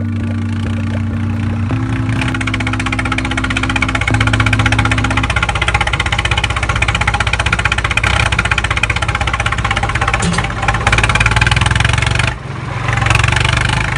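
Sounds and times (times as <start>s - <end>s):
tractor engine idling: 0.0s - 13.9s.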